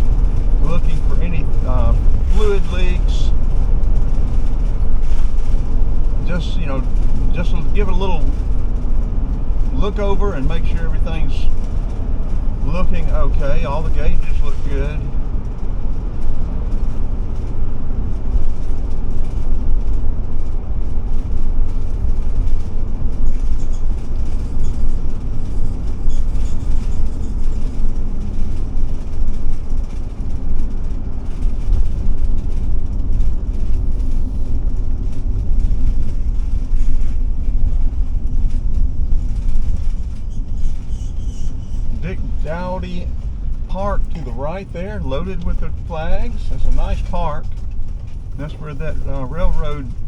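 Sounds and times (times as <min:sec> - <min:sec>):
vehicle cab road rumble: 0:00.0 - 0:50.0.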